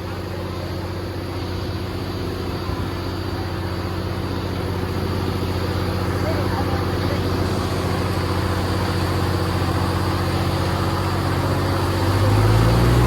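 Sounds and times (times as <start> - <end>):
tractor diesel engine revving: 0.0 - 13.0.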